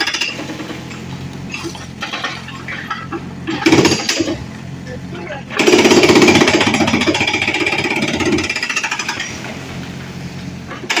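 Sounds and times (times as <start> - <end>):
excavator rattling hammering: 0.0 - 11.0.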